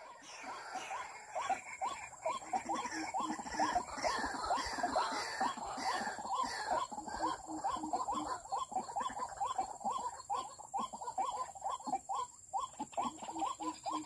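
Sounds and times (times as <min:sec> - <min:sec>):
bird croaking calls: 0:00.0 - 0:14.0.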